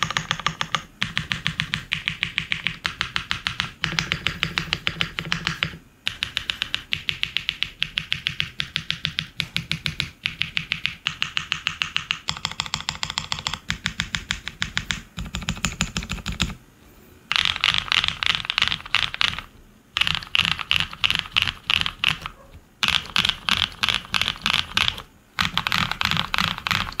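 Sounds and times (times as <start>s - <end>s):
mechanical keyboard typing: 0.0s - 16.6s, 17.3s - 27.0s.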